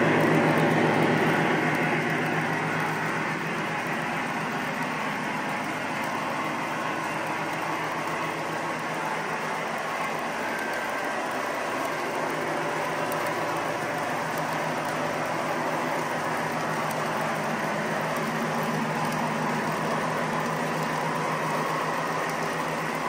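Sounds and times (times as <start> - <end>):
model train wheels rolling on track: 0.0 - 23.0.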